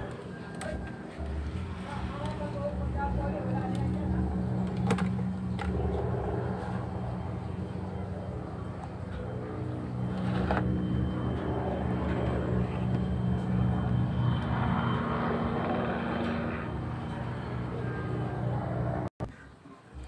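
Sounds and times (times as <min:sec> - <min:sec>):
engine-like drone: 0:00.0 - 0:20.0.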